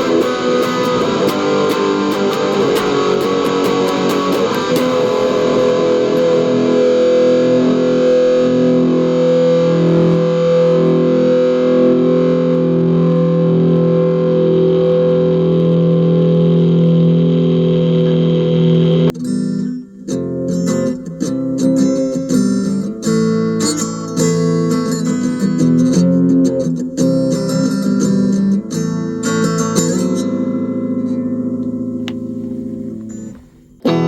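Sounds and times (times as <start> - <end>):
electric guitar chords: 0.0 - 34.0.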